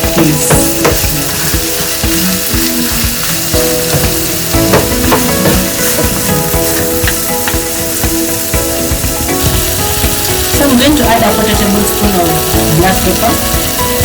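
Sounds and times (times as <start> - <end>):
meat sizzling in a pan: 0.0 - 14.0
stirring clicks and scrapes: 0.0 - 14.0.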